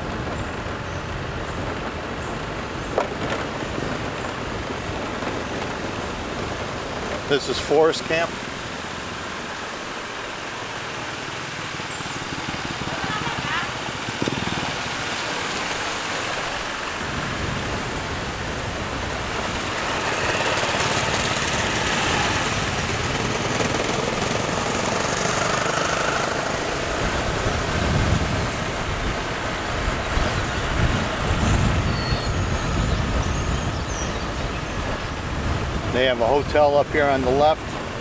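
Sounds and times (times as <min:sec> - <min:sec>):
motorbike engine and wind: 0:00.0 - 0:38.0
wind buffeting microphone: 0:00.0 - 0:38.0.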